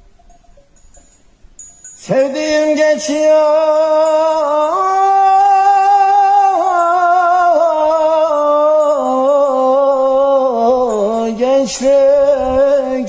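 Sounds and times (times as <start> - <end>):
man singing unaccompanied: 2.0 - 13.0.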